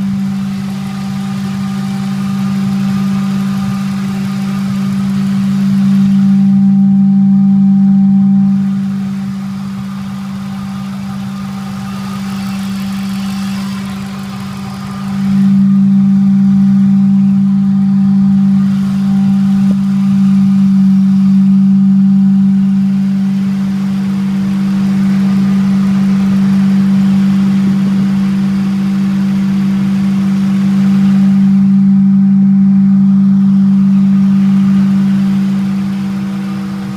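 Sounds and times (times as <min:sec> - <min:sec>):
car engine humming: 0:00.0 - 0:36.9.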